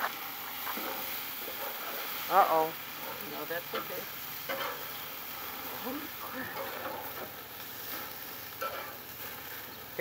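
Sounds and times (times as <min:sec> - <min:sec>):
patties sizzling on a grill: 0:00.0 - 0:10.0.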